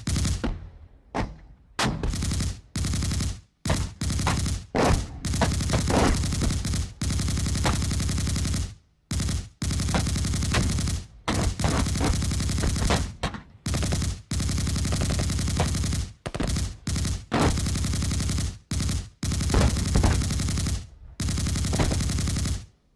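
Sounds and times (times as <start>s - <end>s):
machine gun automatic fire: 0.0s - 0.5s, 1.8s - 22.8s.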